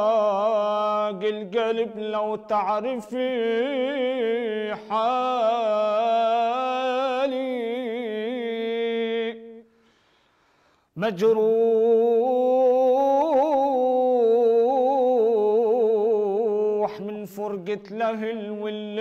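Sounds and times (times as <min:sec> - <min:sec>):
man singing unaccompanied: 0:00.0 - 0:09.7, 0:11.0 - 0:19.0.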